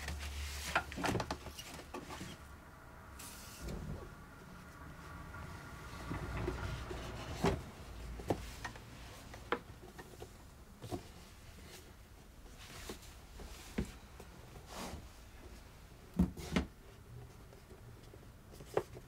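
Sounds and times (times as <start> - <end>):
faint low background noise: 0.0 - 19.0.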